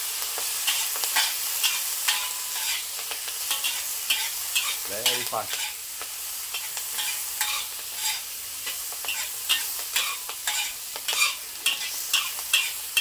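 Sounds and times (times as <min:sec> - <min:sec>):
food sizzling: 0:00.0 - 0:13.0
metal spatula scraping wok: 0:00.6 - 0:05.9, 0:06.5 - 0:13.0.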